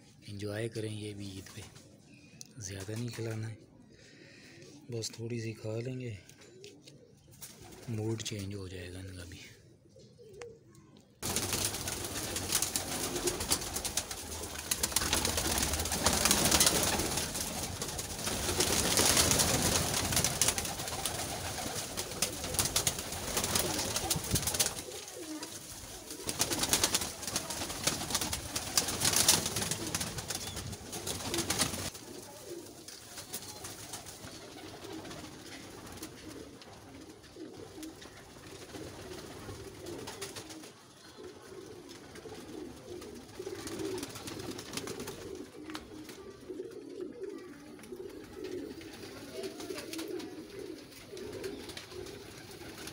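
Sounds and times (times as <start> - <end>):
pigeons cooing: 9.5 - 52.9.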